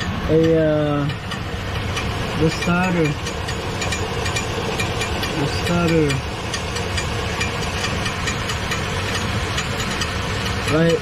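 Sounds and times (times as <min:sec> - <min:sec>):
metal-to-metal ticking: 0:00.0 - 0:11.0
truck engine idling: 0:00.0 - 0:11.0.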